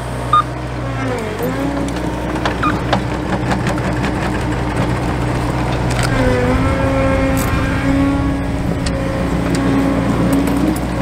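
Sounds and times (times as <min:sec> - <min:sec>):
track loader engine drone with whine: 0:00.0 - 0:11.0.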